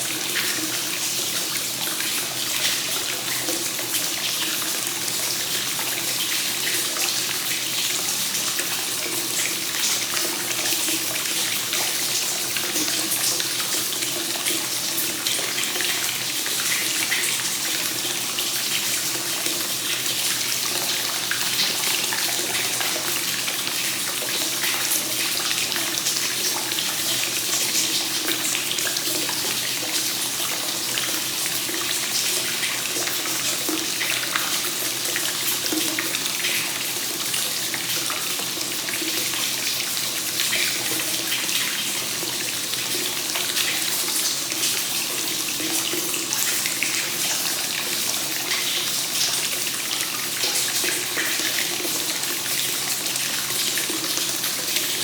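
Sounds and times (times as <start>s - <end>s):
hot water gushing into a bath: 0.0s - 55.0s.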